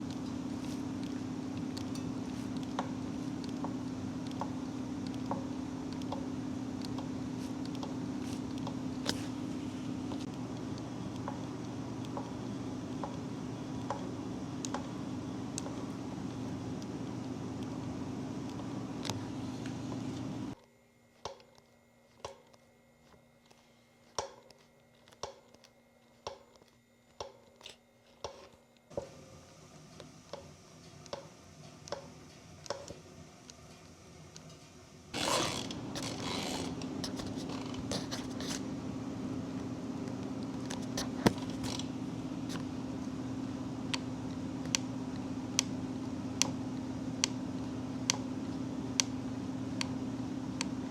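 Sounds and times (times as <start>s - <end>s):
steady hum: 0.0s - 50.9s.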